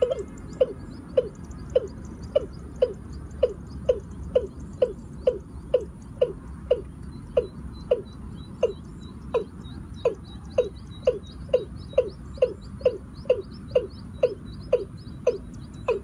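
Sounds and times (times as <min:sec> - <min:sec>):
bird calling deep hollow notes: 0:00.0 - 0:16.0.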